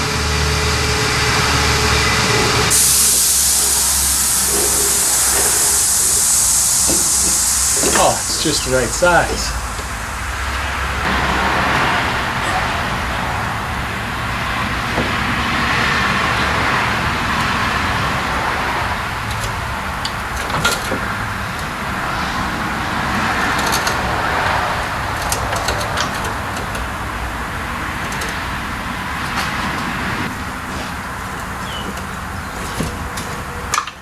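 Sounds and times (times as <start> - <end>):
workshop background noise: 1.5 - 34.0.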